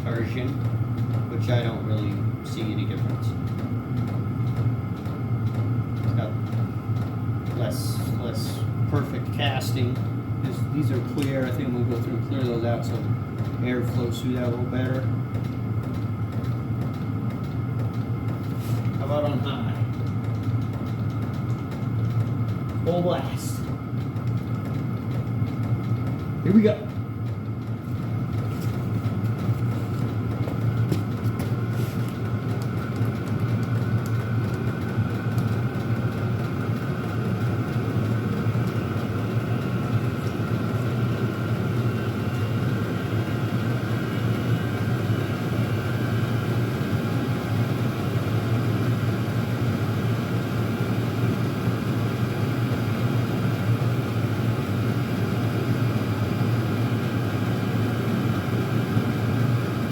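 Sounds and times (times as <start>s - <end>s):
air heater humming: 0.0s - 59.9s
faint steady whine: 0.0s - 59.9s.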